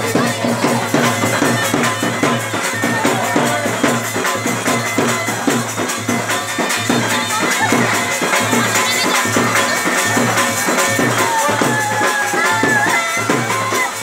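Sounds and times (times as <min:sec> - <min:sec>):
quick even drumbeat: 0:00.0 - 0:14.0.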